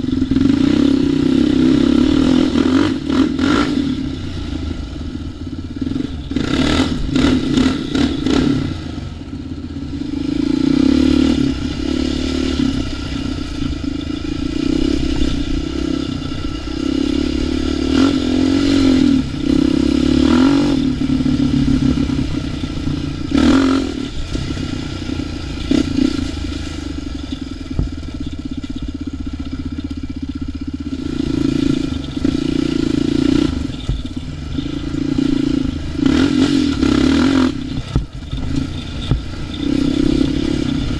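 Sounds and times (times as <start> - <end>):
atv engine revving: 0.0 - 40.9
rattles and scrapes over rough ground: 0.0 - 40.9.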